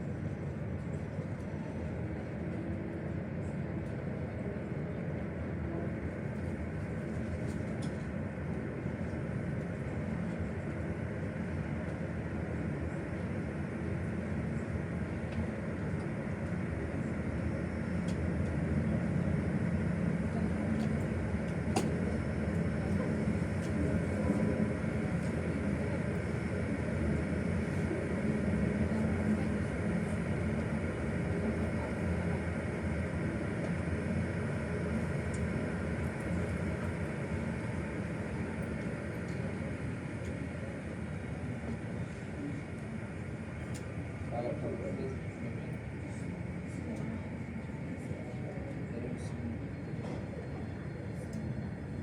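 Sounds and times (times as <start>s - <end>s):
airliner and machinery rumble: 0.0s - 52.0s.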